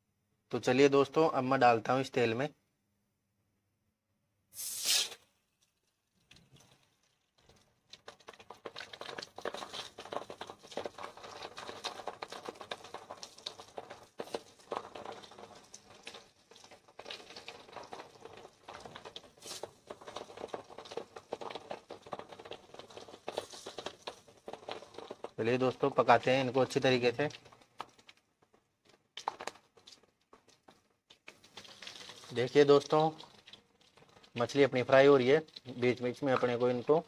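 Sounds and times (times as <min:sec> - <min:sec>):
fish sizzling in oil: 0:04.6 - 0:05.2, 0:06.6 - 0:28.2, 0:28.9 - 0:37.0.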